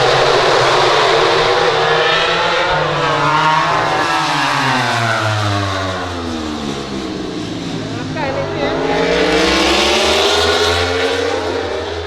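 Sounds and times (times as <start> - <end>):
racing motorcycle engine passing: 0.1 - 12.0.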